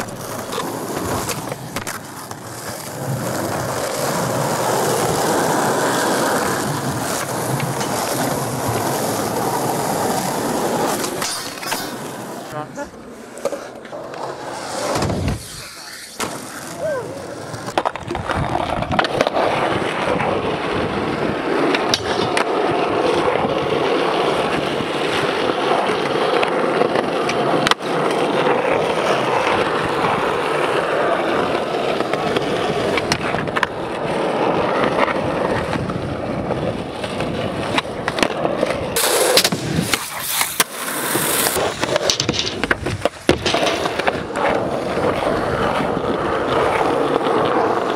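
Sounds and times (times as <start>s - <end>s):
skateboard clacks popping and landing: 0.0s - 12.5s, 13.2s - 47.9s
skateboard wheels rolling on concrete: 0.0s - 47.9s.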